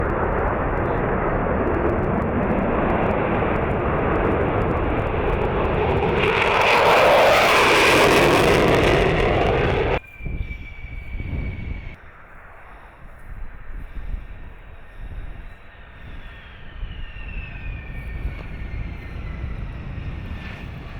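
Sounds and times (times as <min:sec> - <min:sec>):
fighter jet engine rush: 0:00.0 - 0:20.9.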